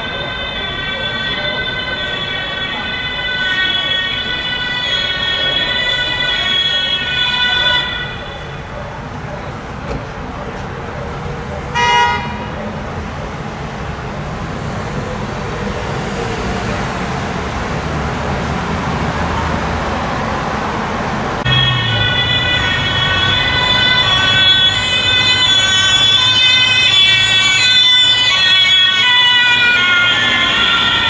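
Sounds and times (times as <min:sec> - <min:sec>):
two-tone police siren: 0:00.0 - 0:18.5, 0:21.4 - 0:31.0
street traffic: 0:00.0 - 0:31.0.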